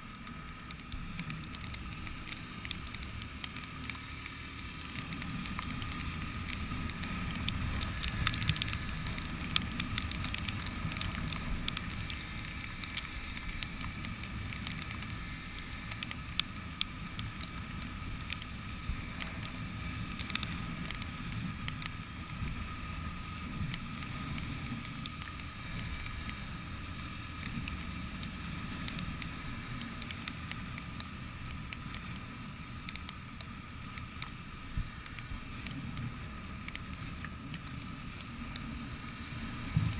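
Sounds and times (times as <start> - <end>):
motorcycle wind and running gear rumble: 0.0 - 39.9
sharp ticks: 0.2 - 34.4.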